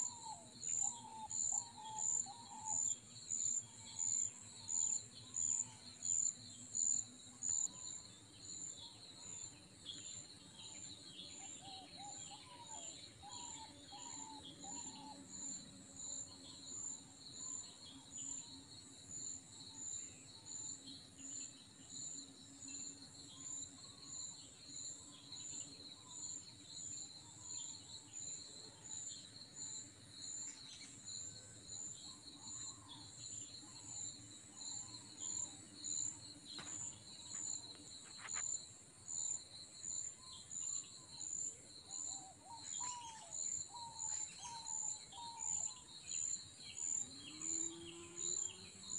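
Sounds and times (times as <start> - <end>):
pulsing insect chorus: 0.0 - 48.9
steady insect trill: 0.0 - 48.9.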